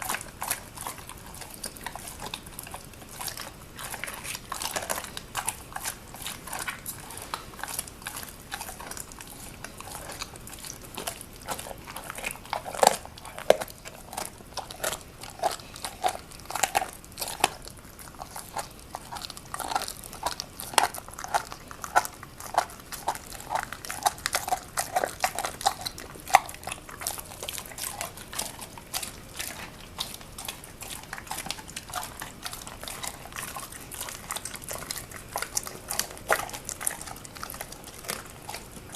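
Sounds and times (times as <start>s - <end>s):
dog crunching bone: 0.0s - 38.9s.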